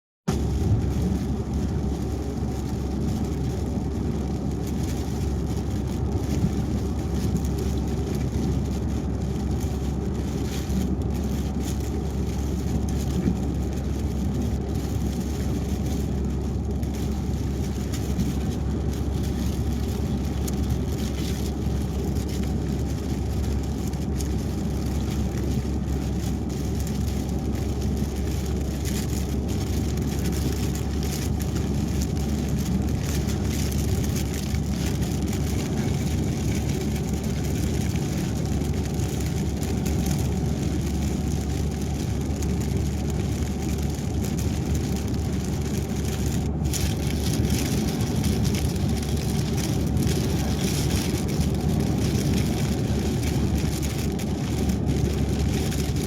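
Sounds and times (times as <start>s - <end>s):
road and engine drone: 0.3s - 56.0s.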